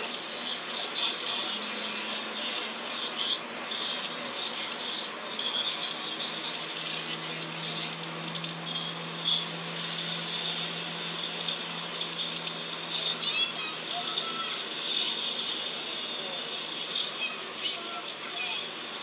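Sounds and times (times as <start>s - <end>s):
high flickering rasp from phone speaker: 0.0s - 19.0s
steady low hum: 0.0s - 19.0s.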